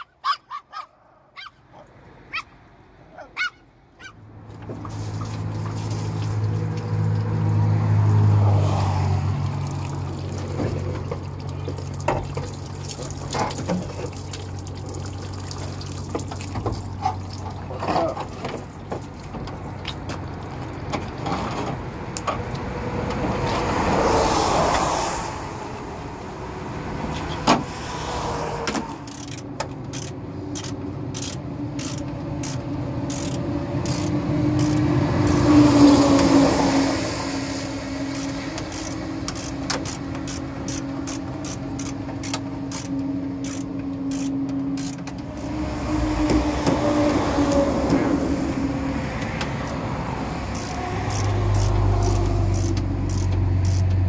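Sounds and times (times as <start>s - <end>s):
steady engine hum: 0.0s - 54.0s
vehicles passing: 0.0s - 54.0s.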